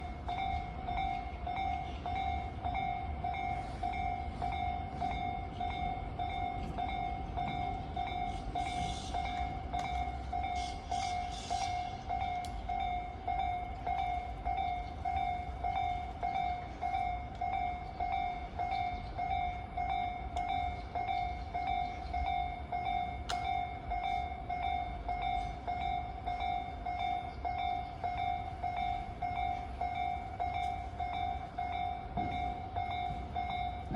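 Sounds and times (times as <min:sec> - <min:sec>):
electric train rumbling: 0:00.0 - 0:33.9
level-crossing bell dinging: 0:00.0 - 0:33.9.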